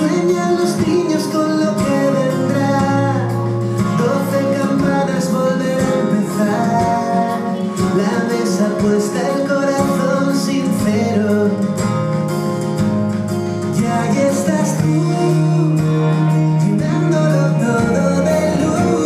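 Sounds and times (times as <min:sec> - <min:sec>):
song with singing over beat: 0:00.0 - 0:19.0.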